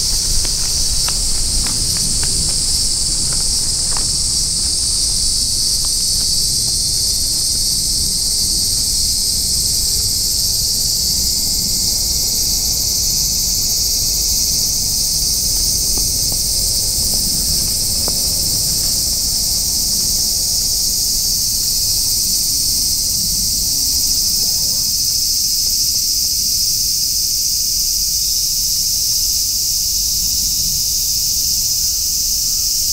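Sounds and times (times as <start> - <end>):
insects chorus: 0.0 - 32.9.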